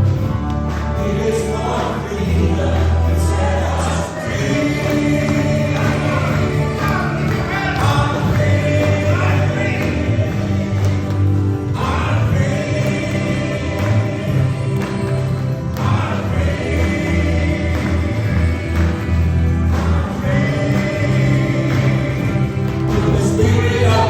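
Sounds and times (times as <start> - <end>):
full band with bass: 0.0 - 24.0
group singing gospel: 0.0 - 24.0.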